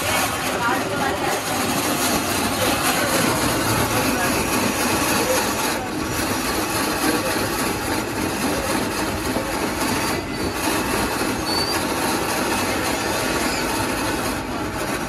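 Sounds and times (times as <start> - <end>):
ice shaver grinding ice: 0.0 - 15.0.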